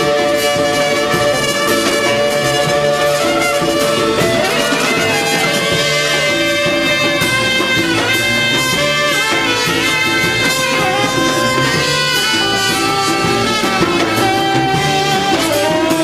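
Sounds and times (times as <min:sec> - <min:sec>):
live jazz band playing: 0:00.0 - 0:16.0.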